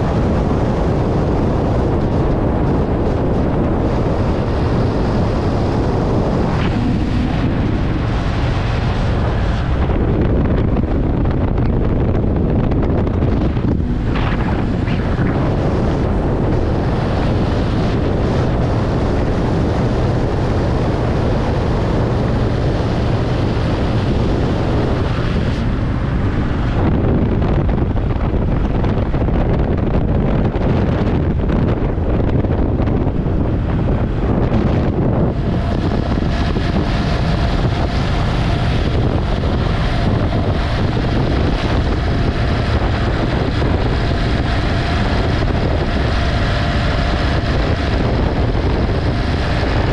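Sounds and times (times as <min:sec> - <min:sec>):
motorcycle engine cruising: 0:00.0 - 0:49.9
wind buffeting microphone: 0:00.0 - 0:49.9.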